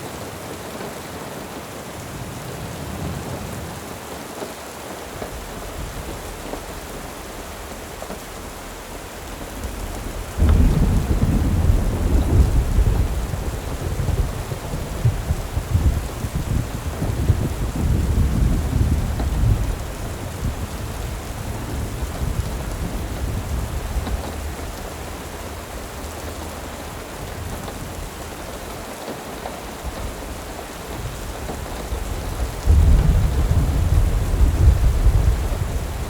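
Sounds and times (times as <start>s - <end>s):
steady rain falling: 0.0s - 36.0s
thunder rumbling: 5.0s - 28.9s, 29.5s - 36.0s.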